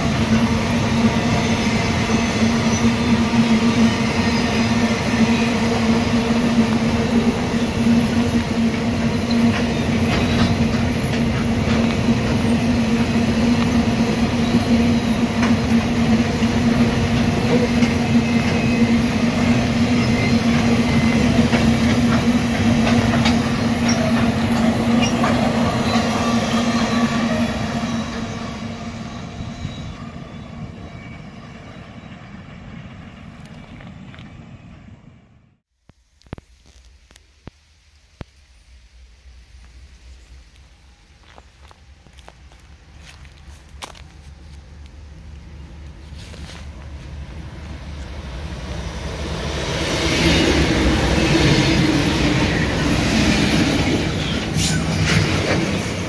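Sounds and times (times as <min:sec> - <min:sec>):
freight train rumbling past: 0:00.0 - 0:35.6, 0:39.0 - 0:56.0.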